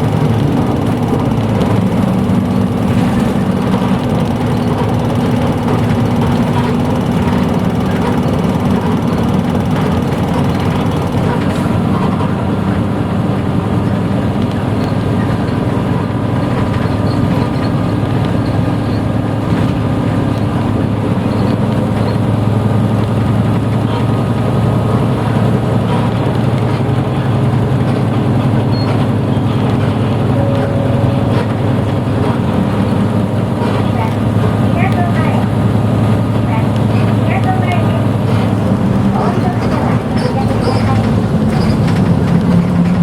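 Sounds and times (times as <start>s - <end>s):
bus engine drone: 0.0s - 43.0s
road noise: 0.0s - 43.0s.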